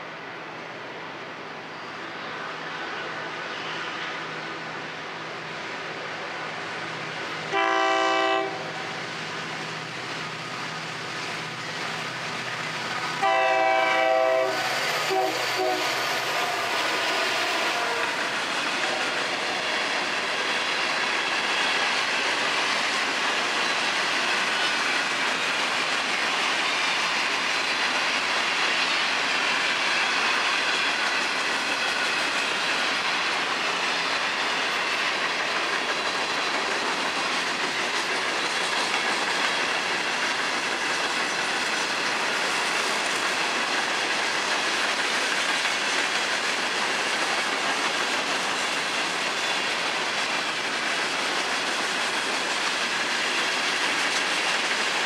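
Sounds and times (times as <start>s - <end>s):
train wheels clattering on rails: 1.9s - 55.0s.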